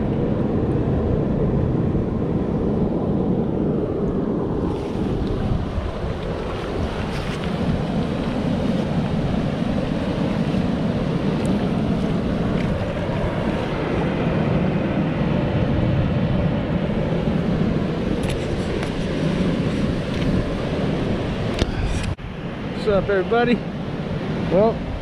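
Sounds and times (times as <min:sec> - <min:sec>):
wind rumble on microphone: 0:00.0 - 0:25.0
surf washing over rocks: 0:04.2 - 0:25.0.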